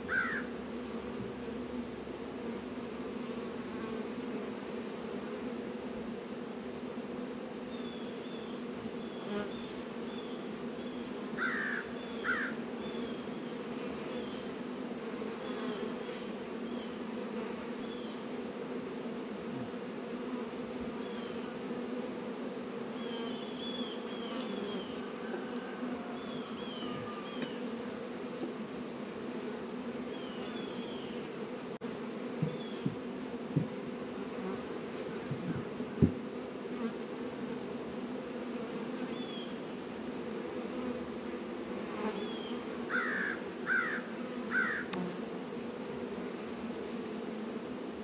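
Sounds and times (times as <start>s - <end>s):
bees humming: 0.0s - 48.0s.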